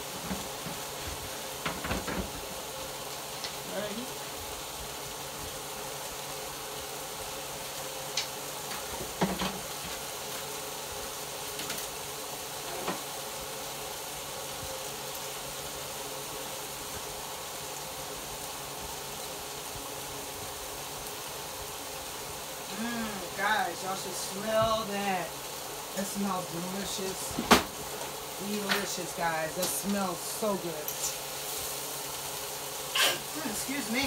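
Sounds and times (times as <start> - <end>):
green beans sizzling in skillet: 0.0 - 34.0.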